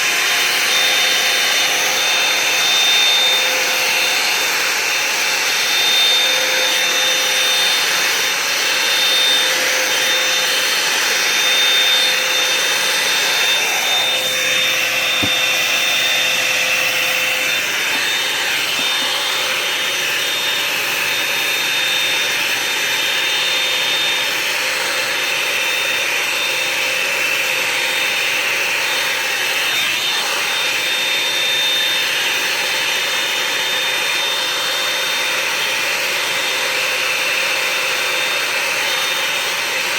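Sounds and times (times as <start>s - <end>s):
hair dryer whir and motor whine: 0.0s - 39.9s.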